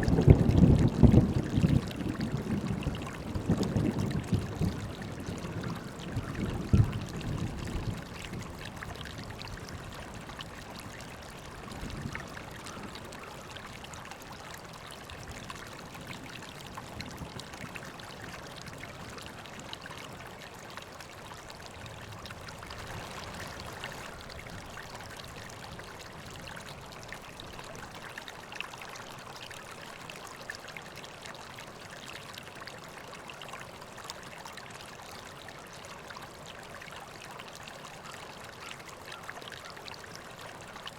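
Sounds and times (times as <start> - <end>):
river water flowing and splashing: 0.0 - 40.9.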